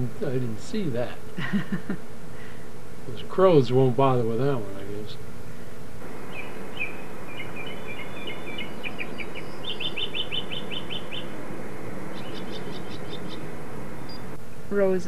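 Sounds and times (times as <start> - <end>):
songbird chirping: 0.0 - 15.0
steady hiss: 0.0 - 15.0.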